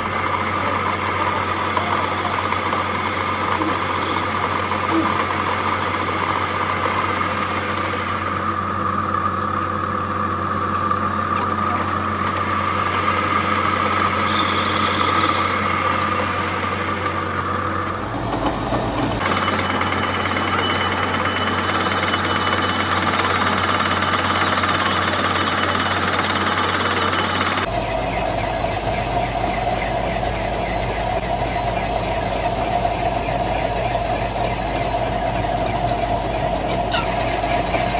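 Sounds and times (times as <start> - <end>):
metal lathe running: 0.0 - 37.9.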